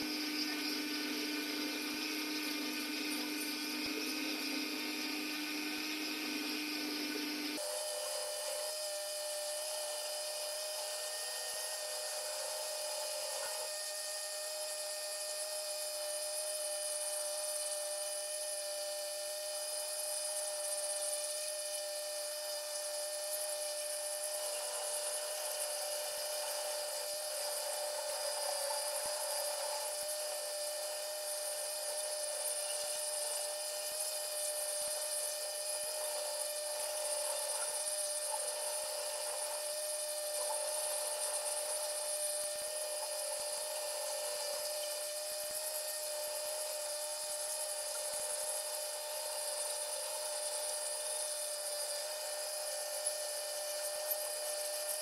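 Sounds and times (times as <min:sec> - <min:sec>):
rotary tool grinding wood: 0:00.0 - 0:55.0.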